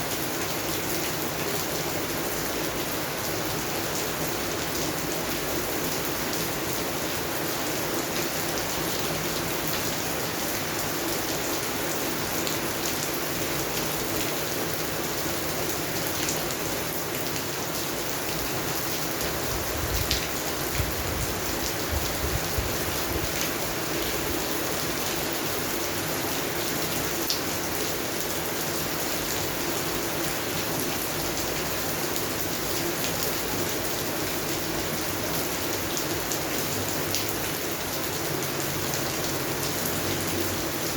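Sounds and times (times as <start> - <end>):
rain falling on plants: 0.0 - 40.9.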